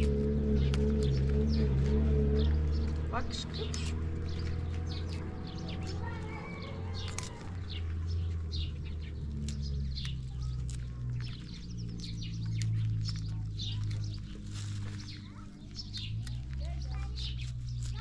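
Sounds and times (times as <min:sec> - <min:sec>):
cauliflower florets snapping: 0:00.0 - 0:01.9, 0:03.7 - 0:08.0, 0:09.2 - 0:18.0
small birds chirping: 0:00.0 - 0:18.0.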